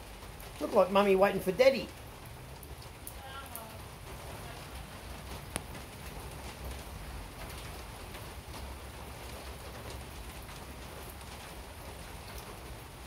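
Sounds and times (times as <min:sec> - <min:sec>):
rain falling on concrete: 0:00.0 - 0:13.0.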